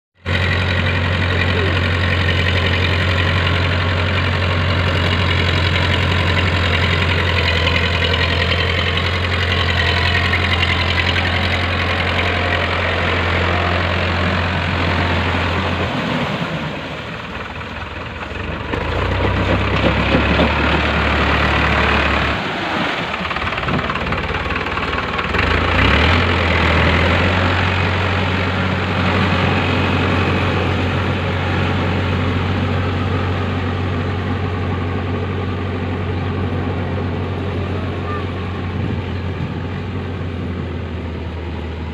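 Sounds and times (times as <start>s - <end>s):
tractor diesel engine under load: 0.1s - 41.9s
blades churning mud and water: 0.3s - 41.0s.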